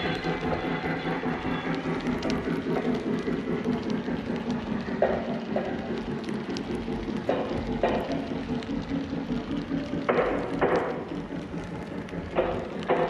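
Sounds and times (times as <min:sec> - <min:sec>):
model train cars rumbling: 0:00.0 - 0:13.0
wheels clicking over rail joints: 0:00.0 - 0:13.0.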